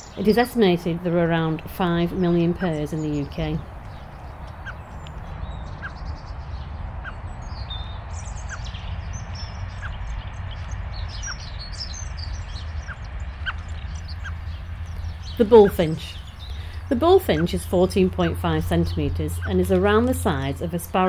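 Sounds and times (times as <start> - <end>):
birds chirping and twittering: 0.0 - 21.0.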